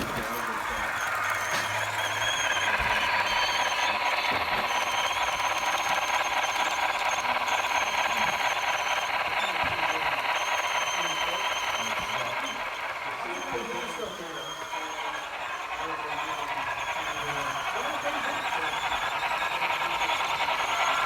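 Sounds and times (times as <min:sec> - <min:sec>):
high squeal: 0:00.0 - 0:21.0
model train motor and wheels: 0:00.0 - 0:21.0.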